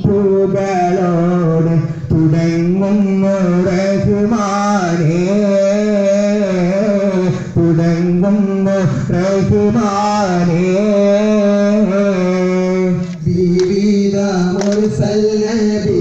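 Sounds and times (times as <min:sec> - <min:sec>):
man singing devotional melody: 0:00.0 - 0:16.0.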